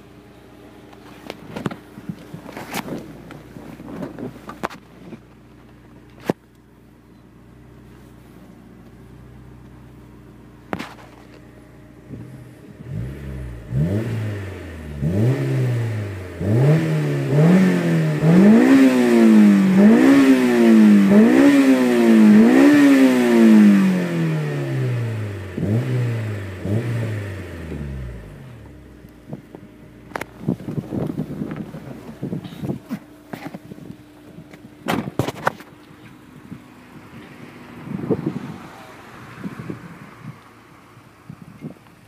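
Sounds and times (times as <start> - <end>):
car engine idling and revving: 0.0 - 42.0.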